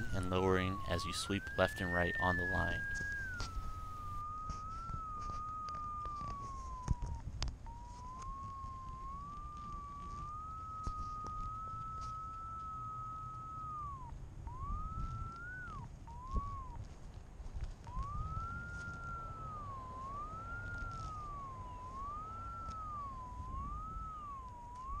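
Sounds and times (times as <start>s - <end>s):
whistle-like wavering tone: 0.0s - 25.0s.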